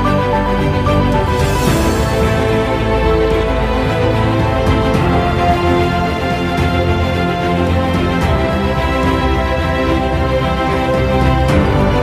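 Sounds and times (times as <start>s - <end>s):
soundtrack music with held notes: 0.0s - 12.0s.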